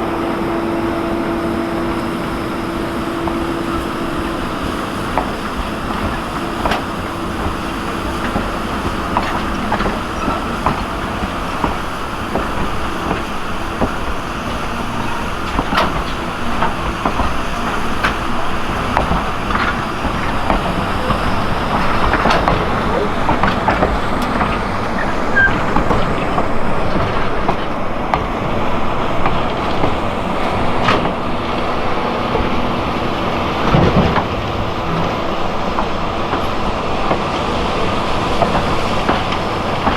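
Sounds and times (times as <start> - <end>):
train cars rumbling: 0.0 - 39.9
wheels clicking on track: 0.0 - 39.9.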